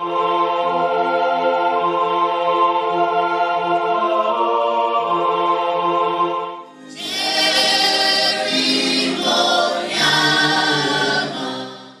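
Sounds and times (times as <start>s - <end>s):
choir singing held chords: 0.0s - 12.0s.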